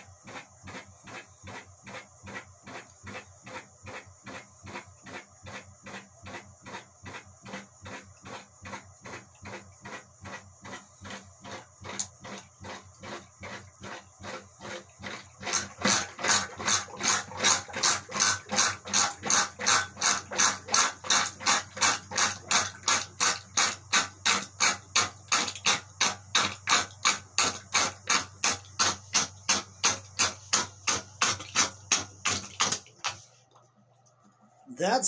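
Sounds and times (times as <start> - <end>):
sump pump pulsing: 0.0 - 33.6.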